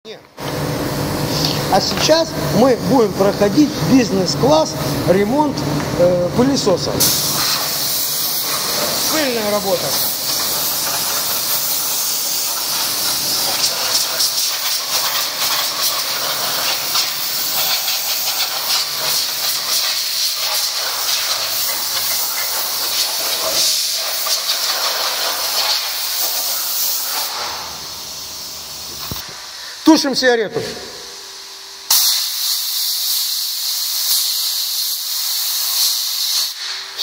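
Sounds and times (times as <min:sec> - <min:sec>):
air blow gun hissing: 0:01.0 - 0:30.0, 0:31.9 - 0:37.0.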